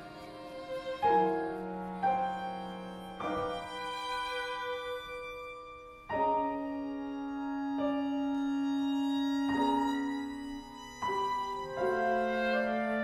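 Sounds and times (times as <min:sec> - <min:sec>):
chamber ensemble playing: 0:00.0 - 0:13.0.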